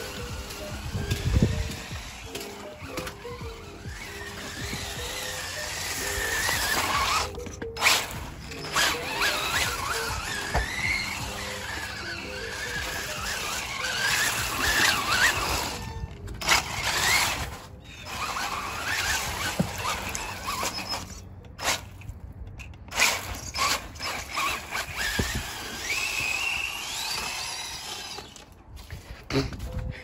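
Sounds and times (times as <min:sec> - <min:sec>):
electric motor whine: 0:00.0 - 0:21.2, 0:23.0 - 0:28.6.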